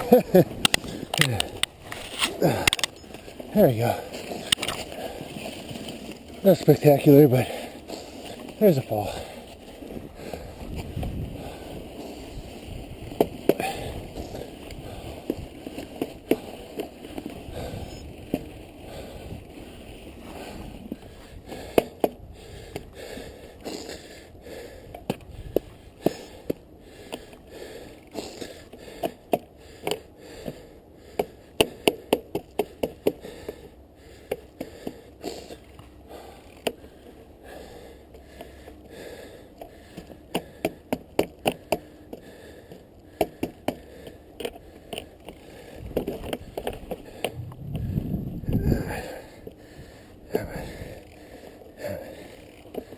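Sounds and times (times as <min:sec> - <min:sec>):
bike clicks and crunches in snow: 0:00.0 - 0:52.9
low rumble of wind and tyres: 0:00.0 - 0:52.9.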